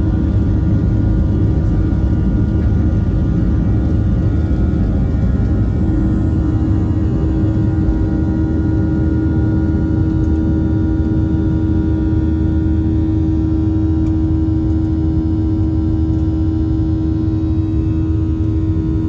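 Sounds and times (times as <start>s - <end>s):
strong steady hum: 0.0s - 19.0s.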